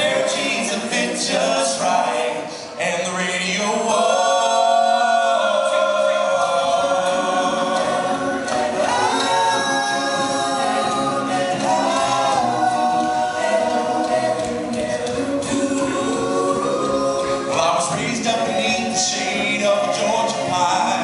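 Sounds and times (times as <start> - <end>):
male a cappella group singing: 0.0 - 21.0.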